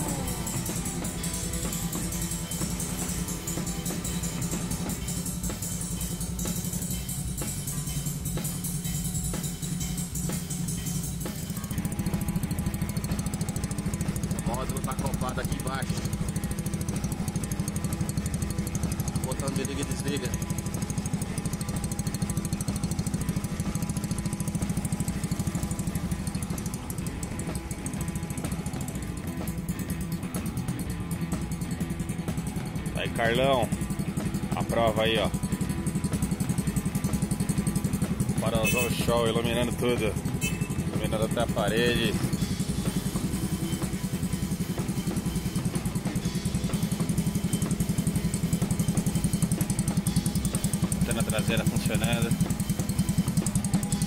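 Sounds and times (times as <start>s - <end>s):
moped engine idling: 0.0s - 54.0s.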